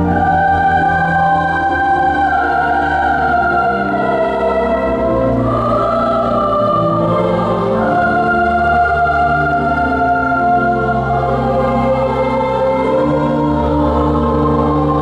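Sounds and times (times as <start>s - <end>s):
mixed choir singing chords: 0.0s - 15.0s
pipe organ: 0.0s - 15.0s.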